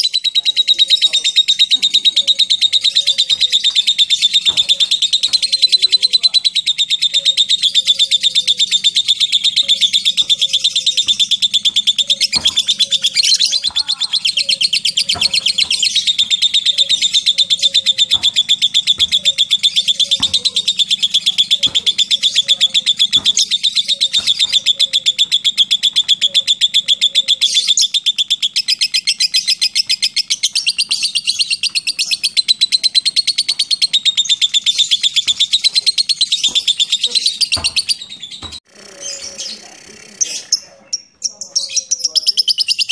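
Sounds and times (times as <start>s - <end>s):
lovebird chatter: 0.0s - 42.9s.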